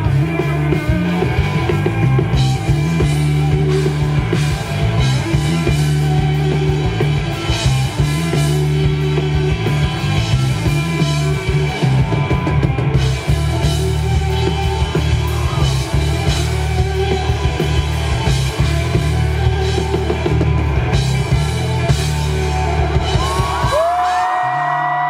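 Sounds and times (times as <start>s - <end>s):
bending electric guitar notes: 0.0s - 25.0s
live rock band playing: 0.0s - 25.0s.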